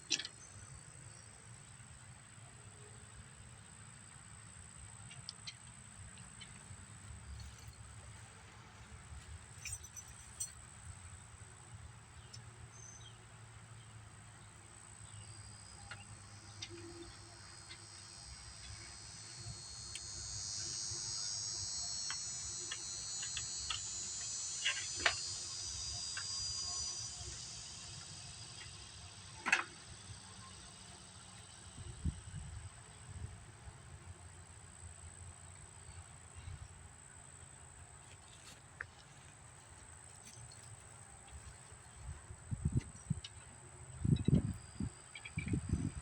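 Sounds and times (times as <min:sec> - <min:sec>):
insects buzzing: 0:00.0 - 0:46.0.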